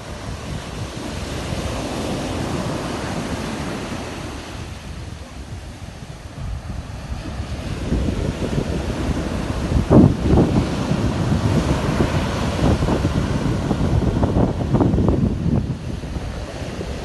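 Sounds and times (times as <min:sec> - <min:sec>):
rough sea rushing: 0:00.0 - 0:17.0
wind buffeting microphone: 0:00.0 - 0:17.0.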